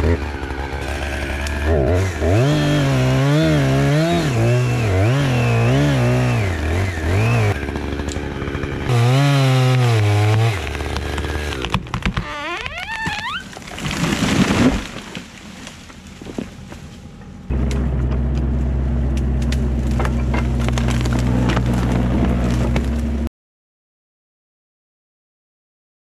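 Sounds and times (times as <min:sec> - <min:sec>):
chainsaw cutting wood: 0:00.0 - 0:18.5, 0:19.1 - 0:23.3.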